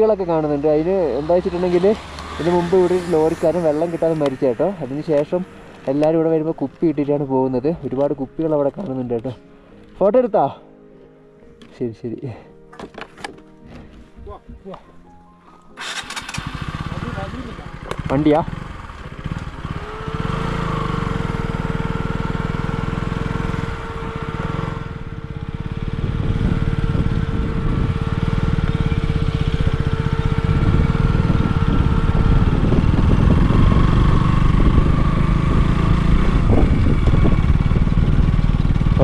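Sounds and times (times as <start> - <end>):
vehicle engine running: 0.0 - 8.4, 15.8 - 39.0.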